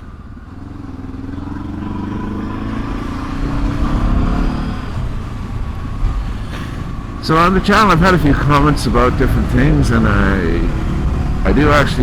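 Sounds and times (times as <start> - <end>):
motorcycle engine pulling away: 0.0 - 12.0.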